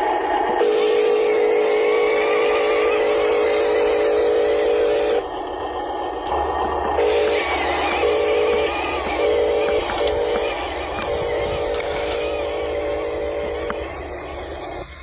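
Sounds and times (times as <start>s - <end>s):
cartoon engine buzzing hum: 0.0s - 15.0s.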